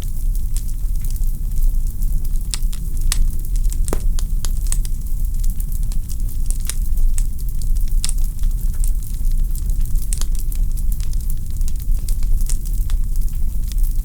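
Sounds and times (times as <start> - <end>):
logs crackling and popping: 0.0 - 14.0
low rumble of flame: 0.0 - 14.0.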